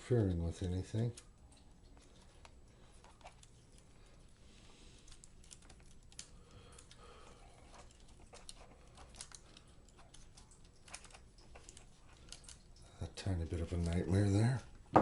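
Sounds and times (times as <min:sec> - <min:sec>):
cable being handled: 0:00.5 - 0:12.8, 0:13.4 - 0:15.0.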